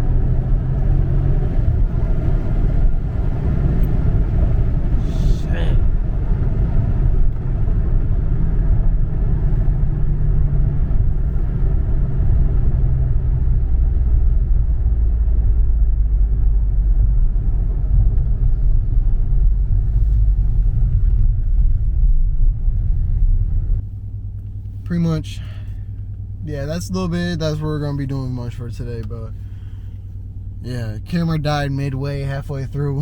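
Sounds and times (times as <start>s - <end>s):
car exhaust rumble: 0.0s - 33.0s
road noise: 0.0s - 33.0s.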